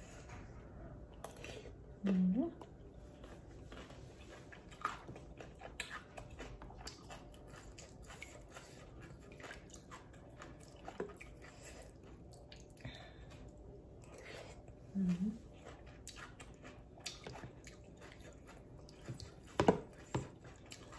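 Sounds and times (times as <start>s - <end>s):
chewing and biting food: 1.2s - 20.9s.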